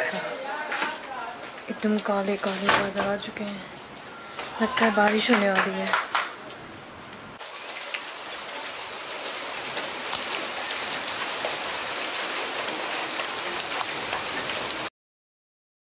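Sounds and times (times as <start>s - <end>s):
rain on concrete: 0.0s - 14.9s.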